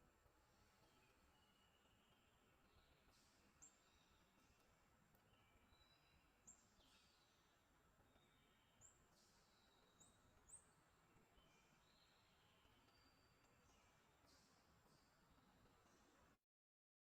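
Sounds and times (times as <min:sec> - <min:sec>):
small birds chirping: 0:00.2 - 0:16.4.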